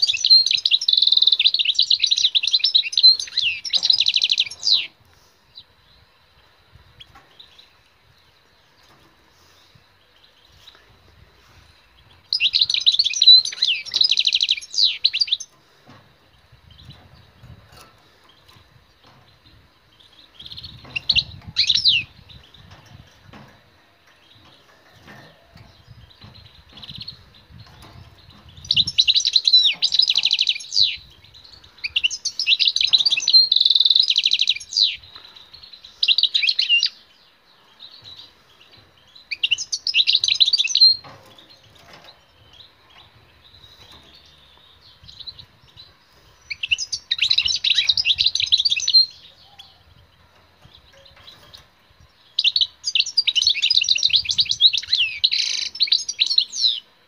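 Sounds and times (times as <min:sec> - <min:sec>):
finch twittering song: 0:00.0 - 0:57.0.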